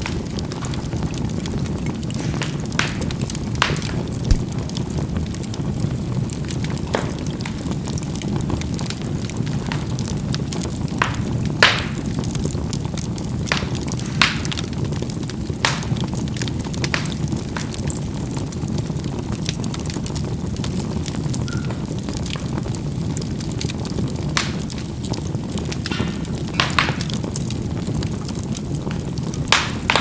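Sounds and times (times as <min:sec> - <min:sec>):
charcoal fire burning: 0:00.0 - 0:30.0
coals crackling and popping: 0:00.0 - 0:30.0.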